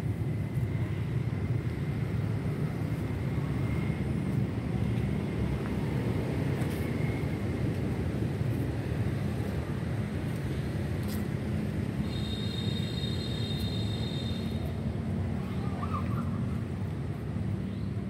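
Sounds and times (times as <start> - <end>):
distant city traffic rumble: 0.0 - 18.0.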